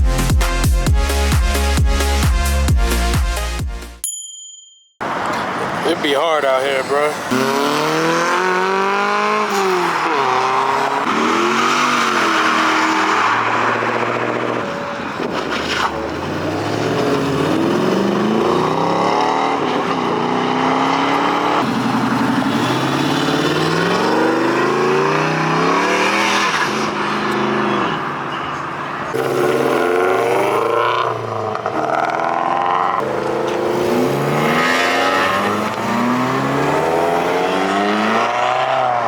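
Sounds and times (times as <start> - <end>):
car engines revving: 5.0 - 39.0.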